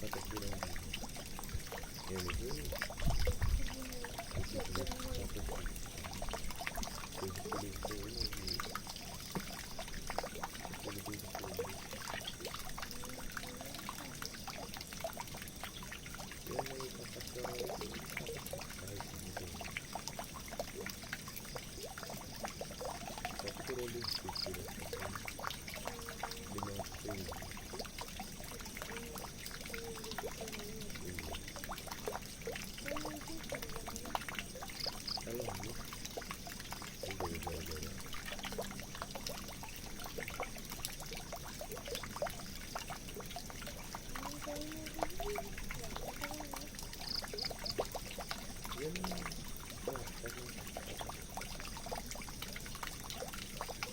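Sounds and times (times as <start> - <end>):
water pouring into a drain: 0.0 - 53.9.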